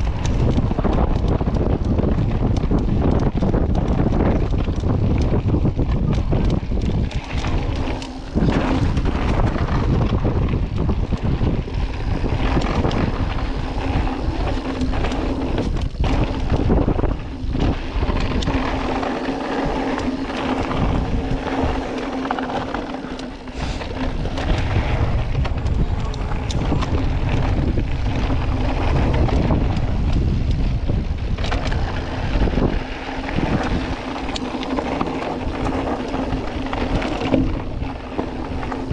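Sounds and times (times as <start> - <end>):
mountain bike rattling: 0.0 - 38.9
wind on microphone: 0.0 - 38.9.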